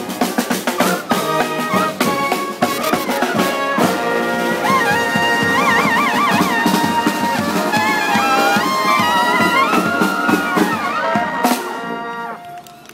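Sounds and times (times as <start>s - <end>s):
drum beat: 0.0s - 12.0s
brass band playing: 0.0s - 12.9s.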